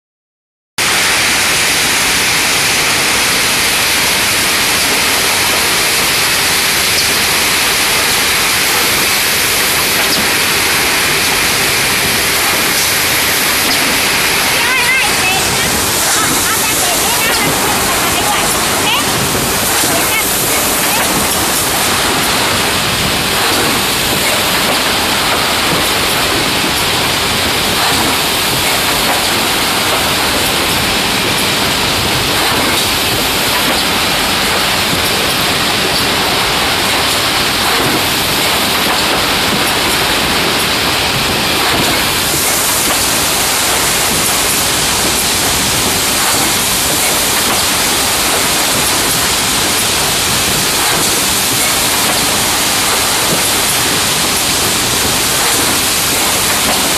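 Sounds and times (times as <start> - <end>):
loud rushing machine noise: 0.8 - 56.9.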